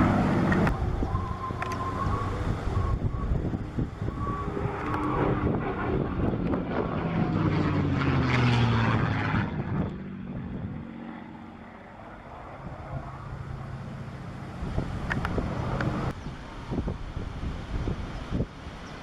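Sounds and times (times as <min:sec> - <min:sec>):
propeller plane engine passing overhead: 0:00.0 - 0:19.0.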